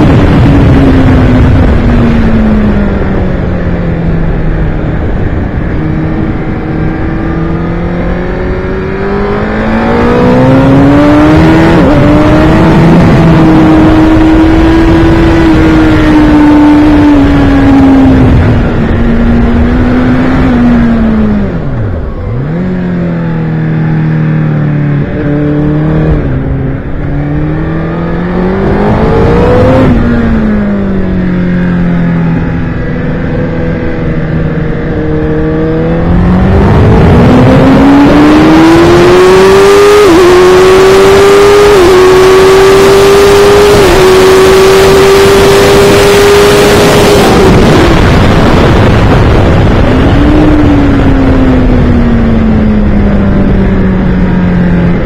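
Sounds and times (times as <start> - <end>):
motorcycle engine at speed: 0.0 - 55.0
wind rush on microphone: 0.0 - 55.0.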